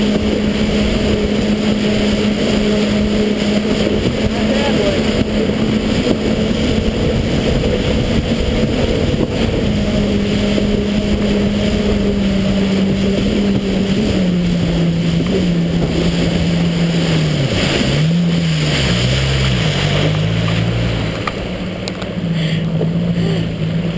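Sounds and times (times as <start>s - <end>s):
personal watercraft engine running: 0.0s - 23.9s
water rushing: 0.0s - 23.9s
wind on microphone: 0.0s - 23.9s.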